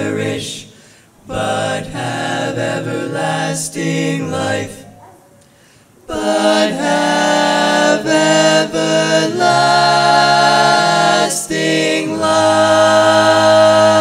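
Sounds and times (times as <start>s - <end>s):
male quartet singing harmony: 0.0s - 5.0s, 6.1s - 14.0s.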